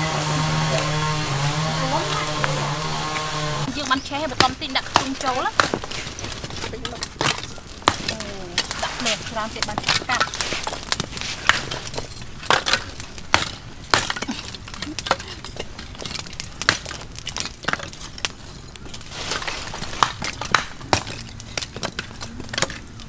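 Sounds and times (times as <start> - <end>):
charcoal lumps clinking: 0.0 - 23.0
wood fire crackling: 0.0 - 23.0.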